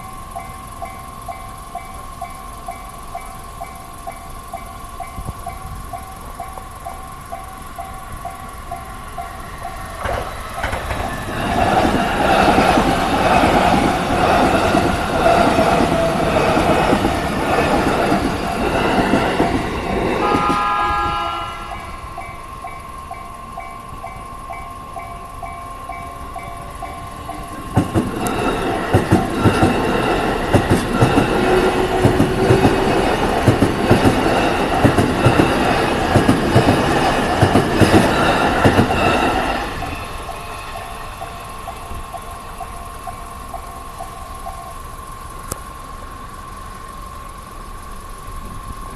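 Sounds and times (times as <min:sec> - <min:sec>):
train wheels clattering over rail joints: 0:00.0 - 0:20.7, 0:22.2 - 0:44.6
level-crossing alarm bell ringing: 0:00.0 - 0:48.2.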